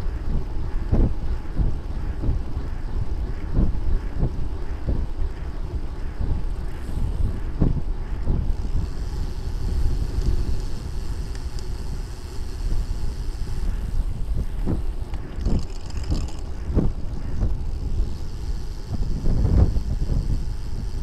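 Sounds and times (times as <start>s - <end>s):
road rumble: 0.0s - 21.0s
wind buffeting microphone: 0.0s - 21.0s.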